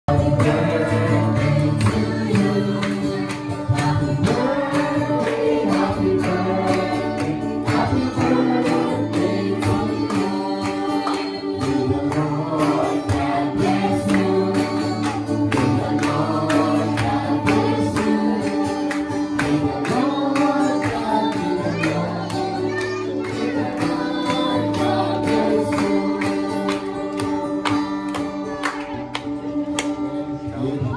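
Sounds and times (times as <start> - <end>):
group singing worship song: 0.1 - 30.9.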